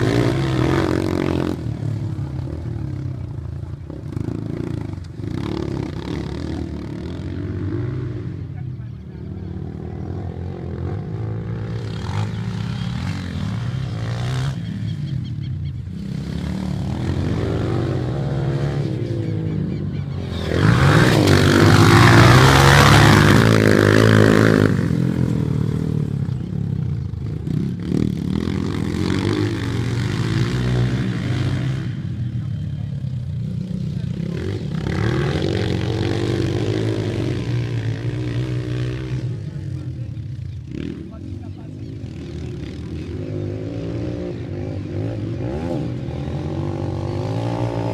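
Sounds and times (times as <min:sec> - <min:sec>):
dirt bike engines running: 0:00.0 - 0:47.9
motorcycle passing close: 0:00.0 - 0:47.9.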